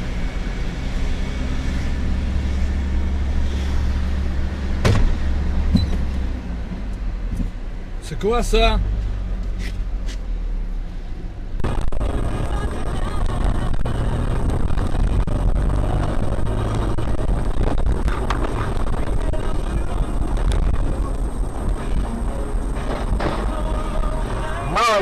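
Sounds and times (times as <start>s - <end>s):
car road and engine noise: 0.0s - 25.0s.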